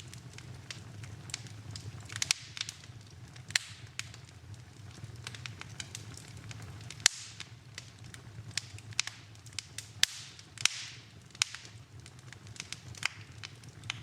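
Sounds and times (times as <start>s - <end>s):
low steady fire rumble: 0.0s - 14.0s
wood fire crackling and popping: 0.0s - 14.0s.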